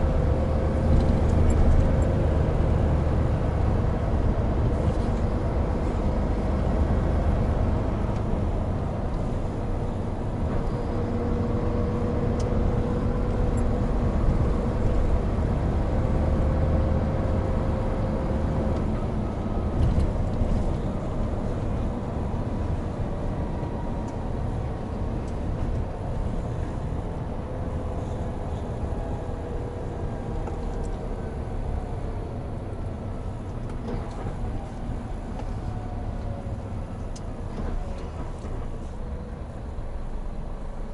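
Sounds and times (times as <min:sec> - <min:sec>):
road noise: 0:00.0 - 0:40.9
truck diesel engine rumble: 0:00.0 - 0:40.9.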